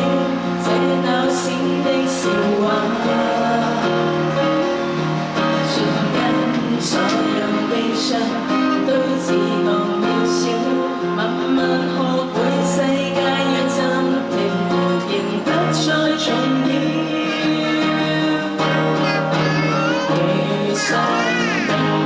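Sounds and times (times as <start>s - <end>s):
instrumental backing: 0.0s - 22.0s
person singing: 0.0s - 22.0s.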